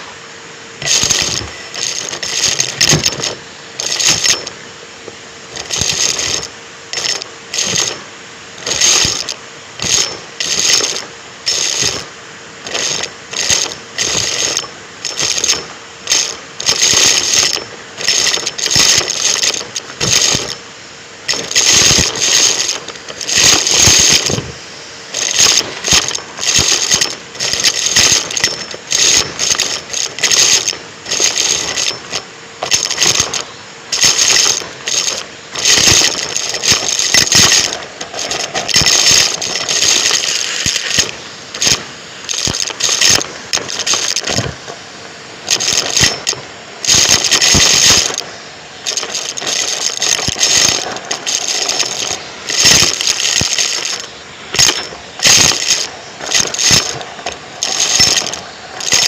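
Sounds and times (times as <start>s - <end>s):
debris crackling and rattling: 0.8s - 4.6s, 5.5s - 59.0s
vacuum cleaner suction: 0.8s - 4.6s, 5.5s - 44.9s, 45.5s - 59.0s.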